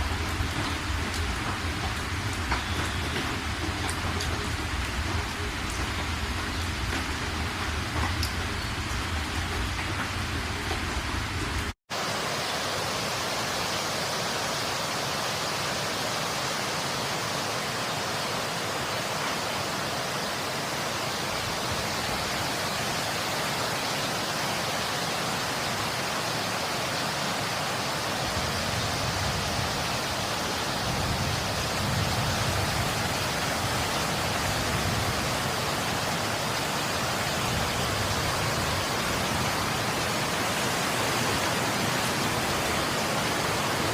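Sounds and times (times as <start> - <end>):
dense rain hiss: 0.0 - 43.9.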